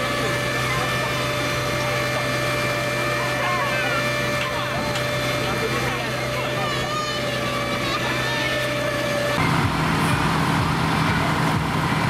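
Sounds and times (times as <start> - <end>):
diesel engine idling: 0.0 - 12.0
faint voices: 0.0 - 12.0
steady machine drone: 0.0 - 12.0.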